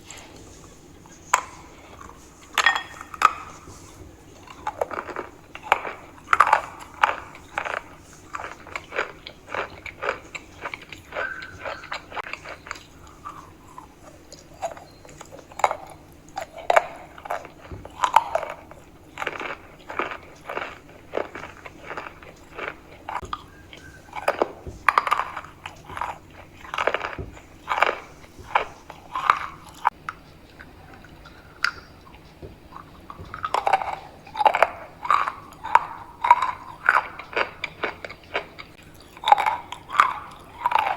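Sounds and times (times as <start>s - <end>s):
crunchy chewing of chalk: 0.0s - 40.9s.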